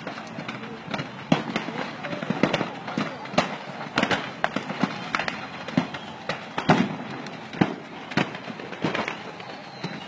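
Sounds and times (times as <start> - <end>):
fireworks bangs and pops: 0.0 - 10.0
fireworks crackling: 0.0 - 10.0.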